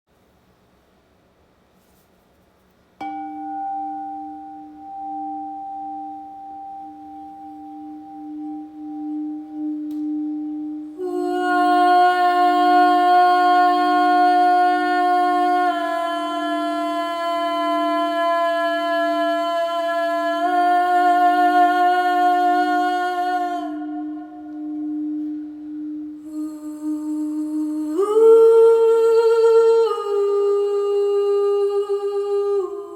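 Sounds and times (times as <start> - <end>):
singing bowl ringing: 3.0 - 29.4
person singing long held tones: 3.0 - 32.9.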